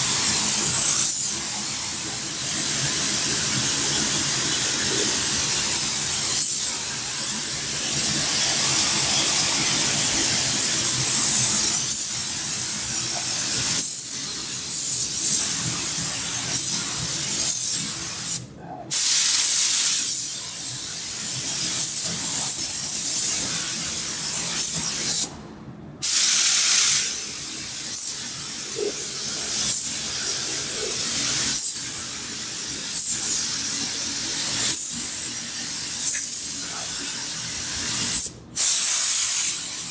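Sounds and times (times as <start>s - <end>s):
paint spray gun hissing: 0.0s - 18.4s, 19.0s - 25.3s, 26.0s - 39.9s.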